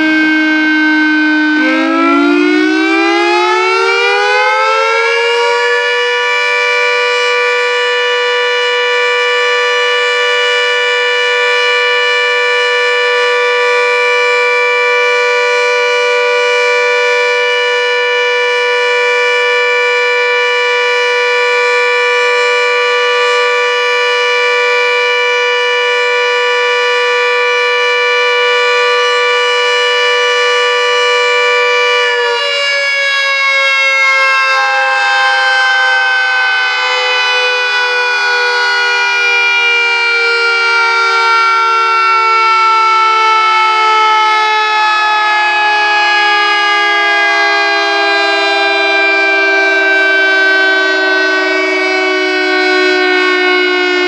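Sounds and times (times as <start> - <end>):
two-tone warning siren wail: 0.0 - 54.0.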